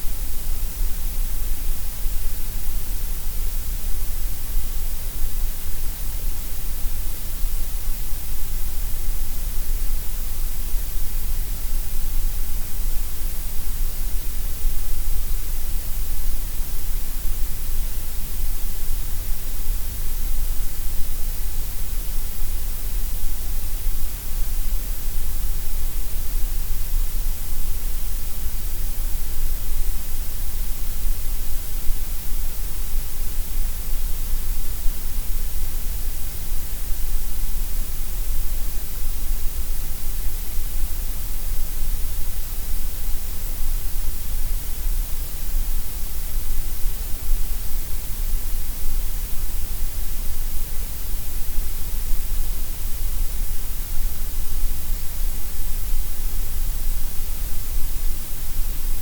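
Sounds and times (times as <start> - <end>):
steady synthetic hiss: 0.0 - 59.0.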